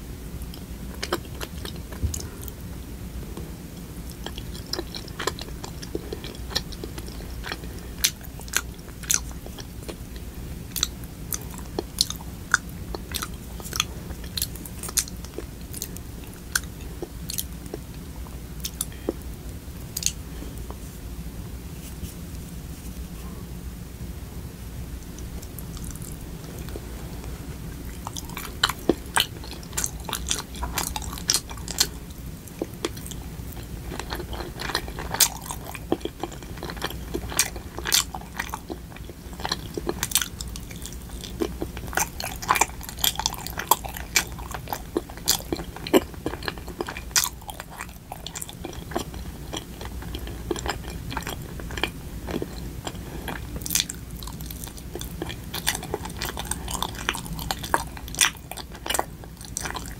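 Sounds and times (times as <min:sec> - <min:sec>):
biting and chewing sticky food: 0:00.4 - 0:21.0, 0:25.0 - 0:59.9.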